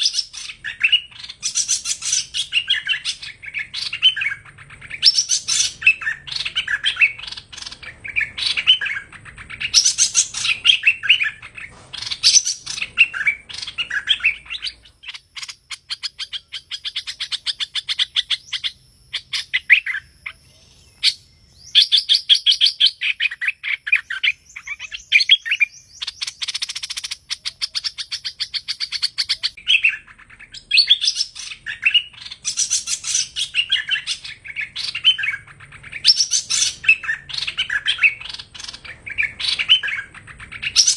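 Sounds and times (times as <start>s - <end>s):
songbird chattering song: 0.0s - 40.9s.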